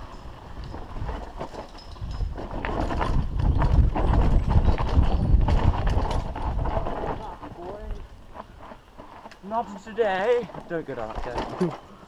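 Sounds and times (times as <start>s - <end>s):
bike tyres rumbling: 0.0s - 12.0s
mountain bike rattling: 0.0s - 12.0s.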